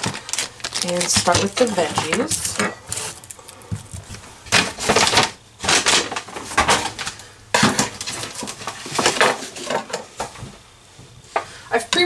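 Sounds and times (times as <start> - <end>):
plastic packaging rustling: 0.0 - 9.9
small items clattering on counter: 0.0 - 10.4.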